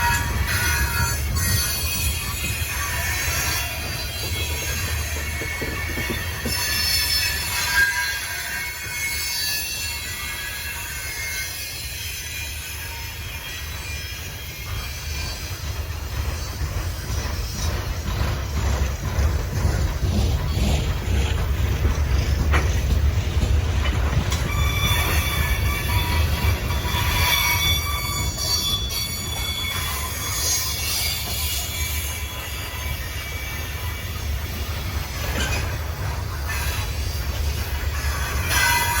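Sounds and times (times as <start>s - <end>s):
steel wheel squeal: 0.0s - 39.0s
train wheels rumbling on rail: 0.0s - 39.0s.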